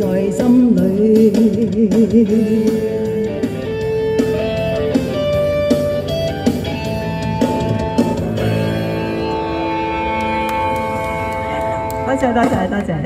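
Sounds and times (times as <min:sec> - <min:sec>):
instrumental backing track: 0:00.0 - 0:13.0.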